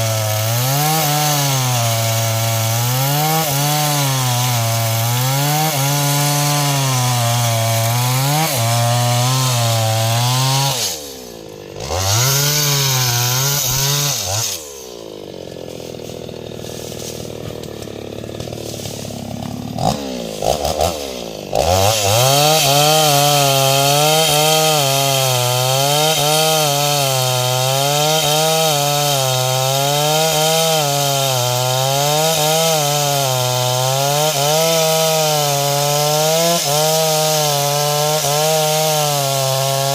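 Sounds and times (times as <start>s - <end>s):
chainsaw cutting wood: 0.0s - 39.9s
chainsaw idling with throttle blips: 0.0s - 39.9s.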